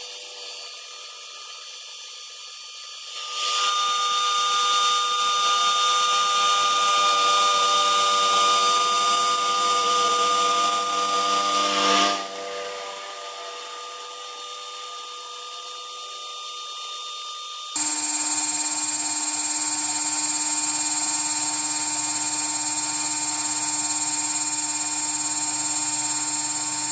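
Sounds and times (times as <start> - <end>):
router spindle whine: 0.0 - 26.9.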